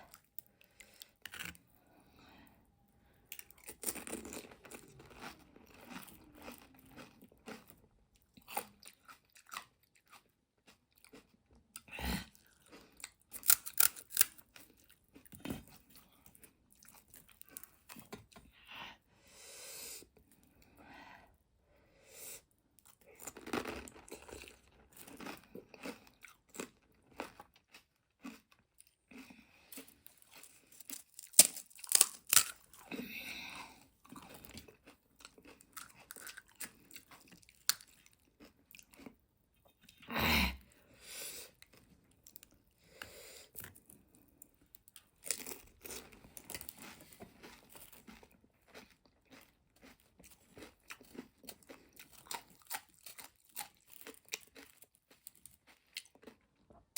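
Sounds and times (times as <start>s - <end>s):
crisp shells crunching while chewed: 0.0s - 1.7s, 3.3s - 18.4s, 22.8s - 40.0s, 43.5s - 56.9s.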